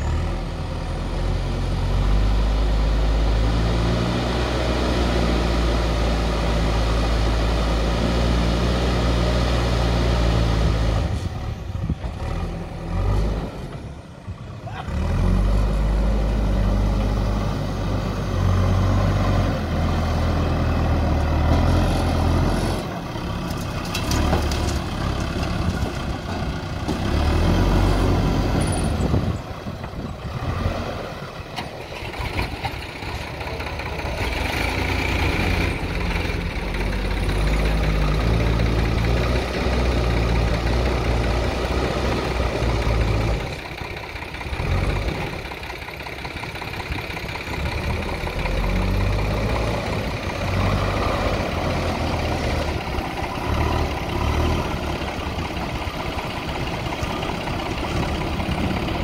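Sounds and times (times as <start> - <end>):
diesel engine working hard: 0.0 - 59.0.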